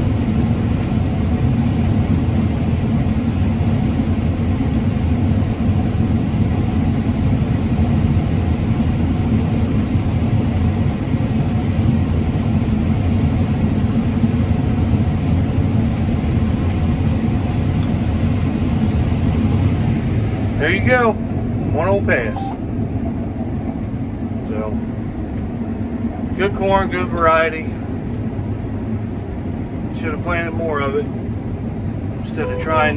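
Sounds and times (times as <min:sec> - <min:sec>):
combine harvester engine drone: 0:00.0 - 0:32.9.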